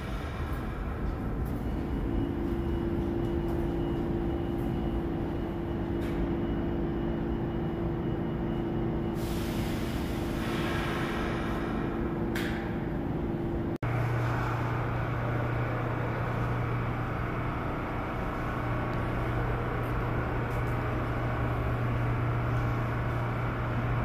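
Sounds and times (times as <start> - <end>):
constant hum: 0.0 - 24.0
subway train rumble: 0.0 - 24.0.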